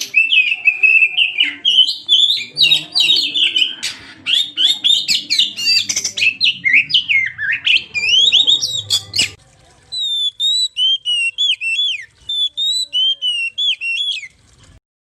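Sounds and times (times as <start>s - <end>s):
bird song whistles and chirps: 0.0s - 9.4s, 10.0s - 14.3s.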